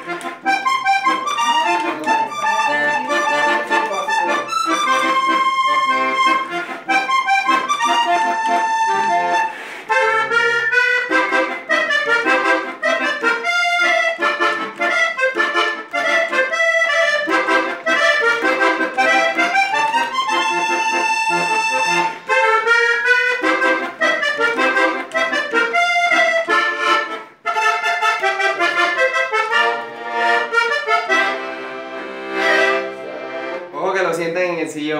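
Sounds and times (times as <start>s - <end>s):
button accordion playing fast runs: 0.0s - 34.1s.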